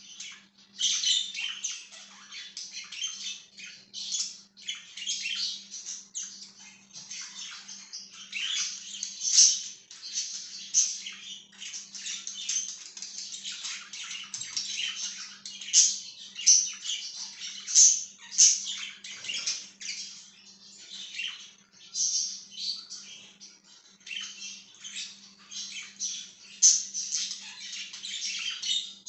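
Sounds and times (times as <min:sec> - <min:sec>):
budgerigars chirping: 0:00.0 - 0:29.0.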